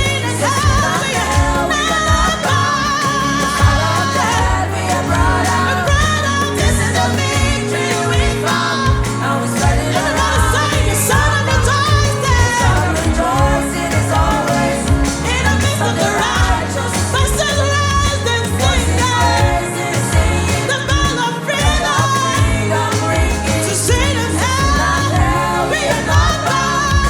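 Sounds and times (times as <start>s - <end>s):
bass line: 0.0s - 27.0s
drum beat: 0.0s - 27.0s
person singing: 0.0s - 27.0s.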